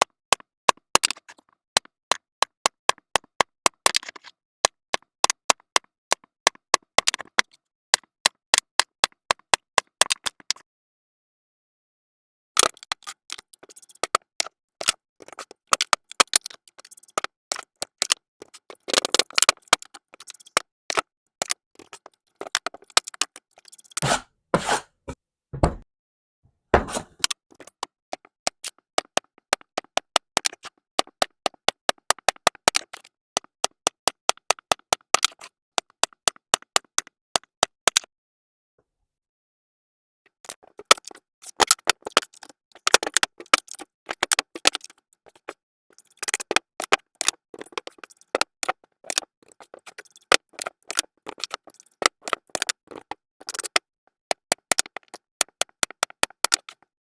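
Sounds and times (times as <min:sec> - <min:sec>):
taps clicks and scrapes: 0:00.0 - 0:10.6, 0:12.6 - 0:25.8, 0:26.8 - 0:38.1, 0:40.3 - 0:56.9.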